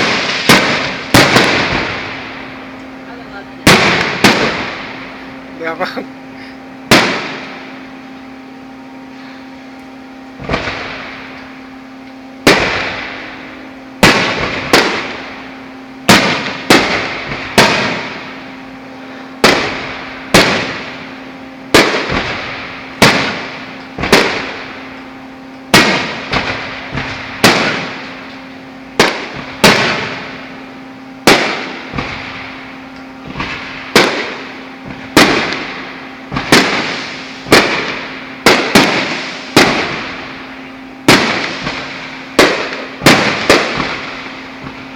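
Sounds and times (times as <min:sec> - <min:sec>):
fireworks bangs with echo: 0:00.0 - 0:05.9, 0:06.8 - 0:07.7, 0:10.4 - 0:11.4, 0:12.4 - 0:24.9, 0:25.7 - 0:44.9.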